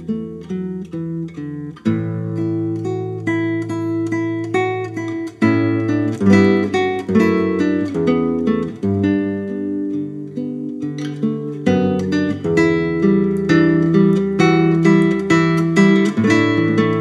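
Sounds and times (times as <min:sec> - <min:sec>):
classical guitar fingerstyle: 0:00.0 - 0:17.0.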